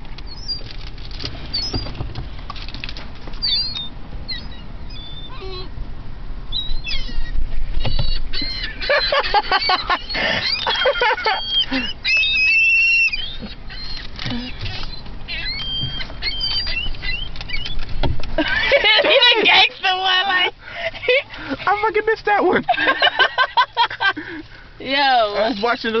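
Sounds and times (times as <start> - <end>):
gulls calling: 3.4 - 5.8, 6.4 - 26.0.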